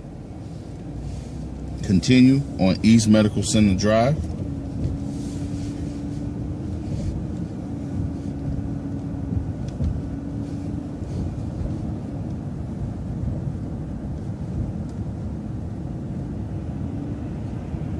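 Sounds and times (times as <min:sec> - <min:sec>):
bus engine and road rumble: 0:00.0 - 0:17.9
steady hum: 0:00.0 - 0:17.9.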